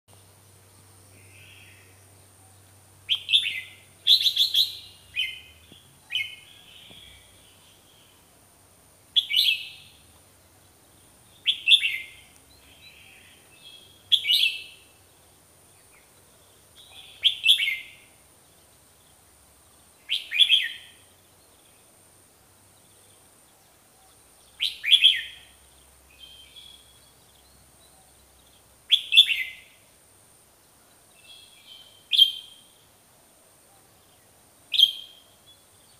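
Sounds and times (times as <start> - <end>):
bird chirping phrases: 0.6 - 8.4, 9.1 - 22.0, 22.6 - 30.0, 30.6 - 33.0, 33.7 - 35.9.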